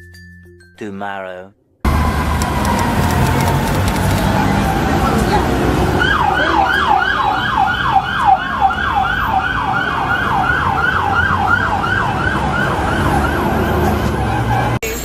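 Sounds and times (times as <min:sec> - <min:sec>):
electronic siren yelping: 0:01.9 - 0:14.8
street noise: 0:01.9 - 0:15.0.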